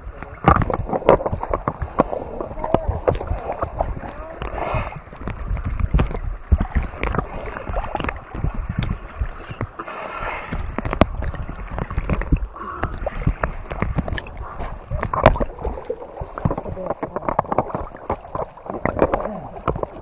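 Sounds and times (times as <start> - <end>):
water sloshing and gurgling: 0.0 - 20.0.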